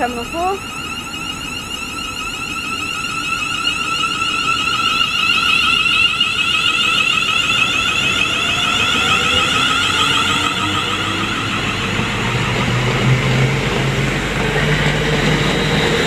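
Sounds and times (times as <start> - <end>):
electric train motor whine: 0.0 - 16.0
low rising train tone: 0.0 - 16.0.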